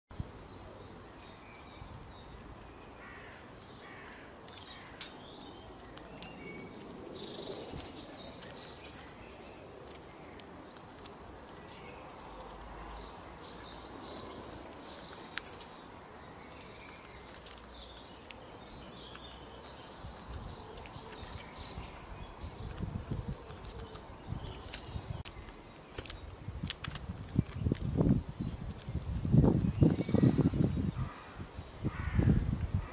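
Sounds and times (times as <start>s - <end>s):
small birds chirping: 0.1s - 32.9s.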